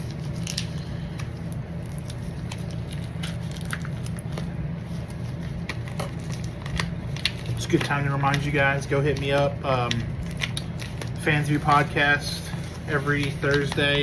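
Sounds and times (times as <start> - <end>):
packaging crinkling: 0.0 - 14.0
steady low hum: 0.0 - 14.0.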